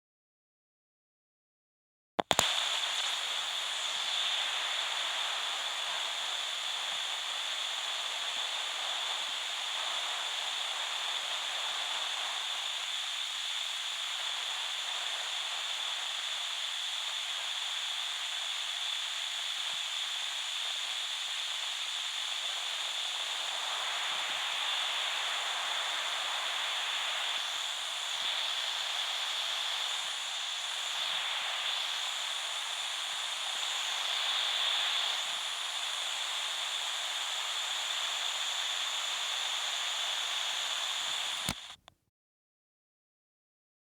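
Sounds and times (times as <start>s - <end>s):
radio static hiss: 2.2s - 41.9s.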